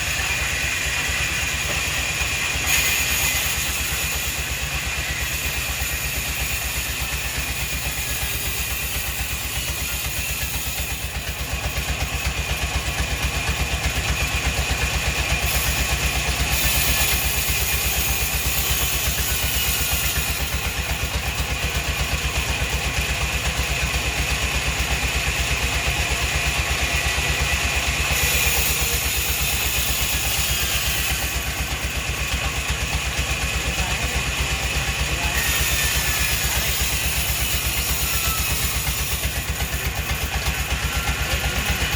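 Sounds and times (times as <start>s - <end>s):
machine engine running: 0.0s - 41.9s.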